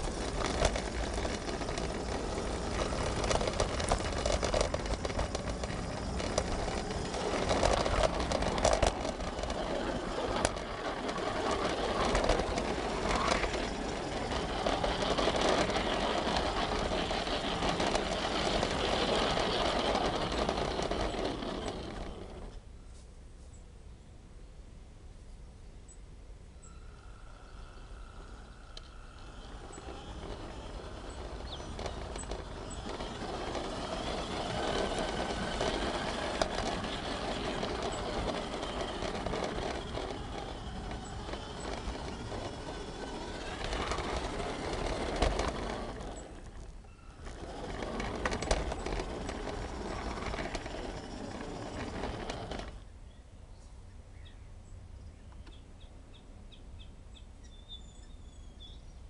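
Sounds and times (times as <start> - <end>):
model train running on rails: 0.0 - 22.7, 26.6 - 52.9.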